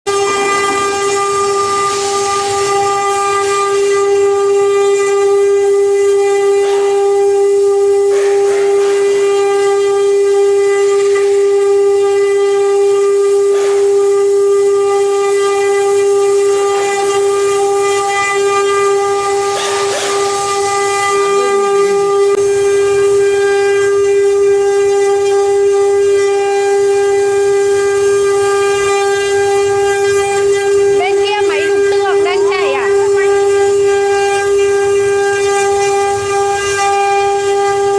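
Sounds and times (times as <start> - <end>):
router spindle whine: 0.1 - 37.9.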